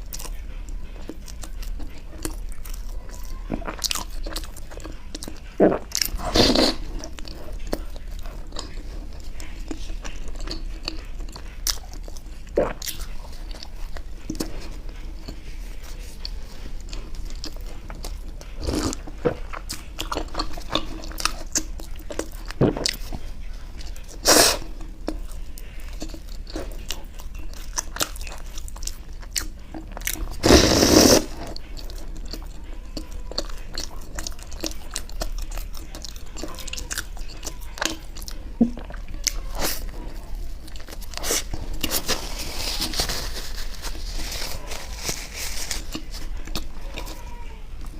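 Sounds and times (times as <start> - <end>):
bread being bitten and chewed: 0.0 - 47.9.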